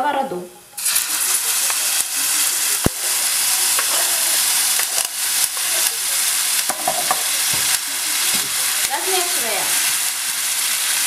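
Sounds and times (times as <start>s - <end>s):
tomatoes sizzling in hot oil: 0.8s - 11.0s.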